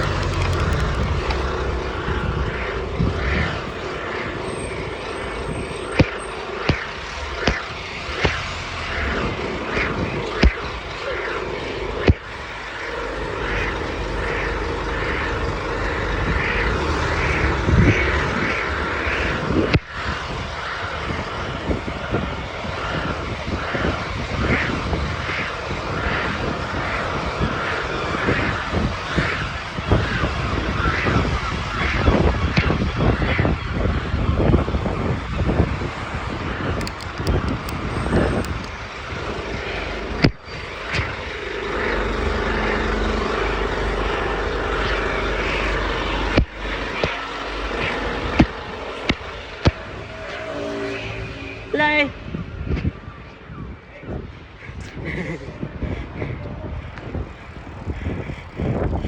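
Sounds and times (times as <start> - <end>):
engine running with whine: 0.0 - 59.0.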